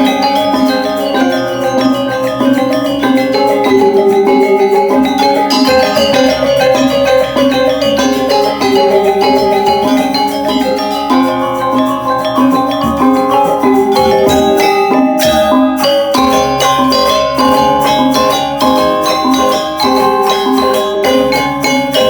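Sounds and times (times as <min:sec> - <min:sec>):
gamelan metallophones playing: 0:00.0 - 0:22.0.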